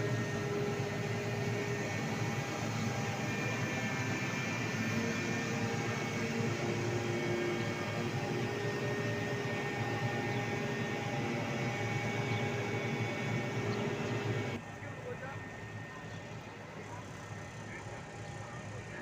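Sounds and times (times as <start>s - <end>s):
crane engine droning: 0.0s - 19.0s
faint steady whines: 0.0s - 19.0s.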